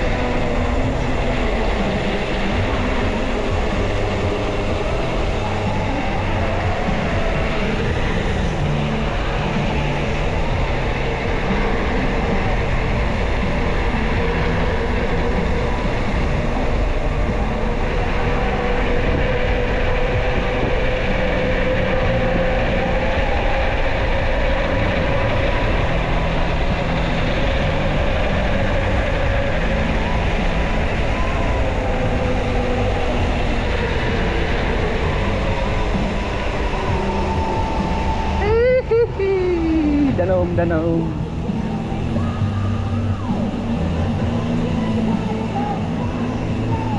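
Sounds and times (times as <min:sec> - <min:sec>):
wavering whine: 0:00.0 - 0:46.9
wind buffeting microphone: 0:00.0 - 0:46.9.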